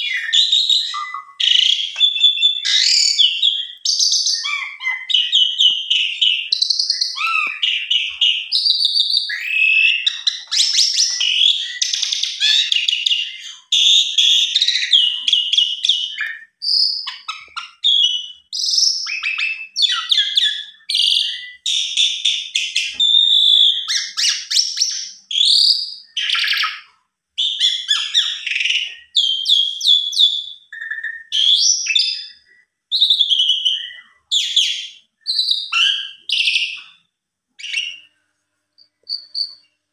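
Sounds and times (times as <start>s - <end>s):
starling singing whistles and chirps: 0.0s - 38.1s, 38.8s - 39.8s.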